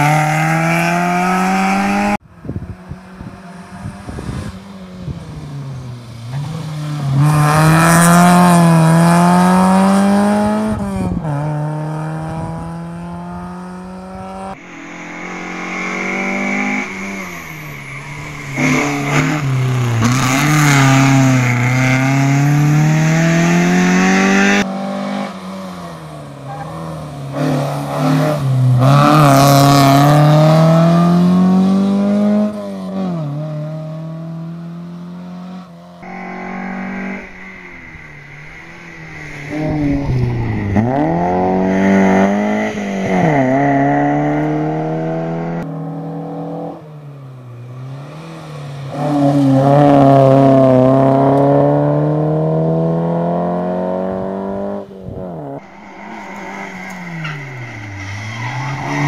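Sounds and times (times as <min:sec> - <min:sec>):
rally car engines accelerating: 0:03.1 - 0:59.0.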